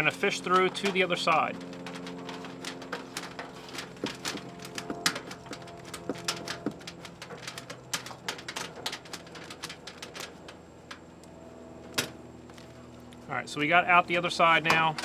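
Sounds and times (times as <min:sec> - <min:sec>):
wires scraping through conduit: 0:00.0 - 0:15.0.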